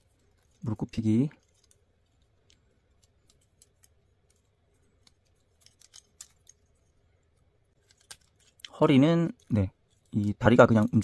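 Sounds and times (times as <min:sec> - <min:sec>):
small plastic parts clicking: 0:00.0 - 0:11.0.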